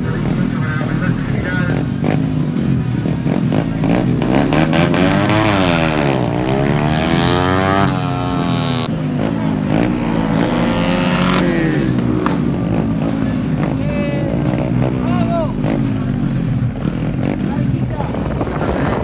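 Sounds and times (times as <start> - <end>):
motorcycle engines at high revs: 0.0 - 19.0.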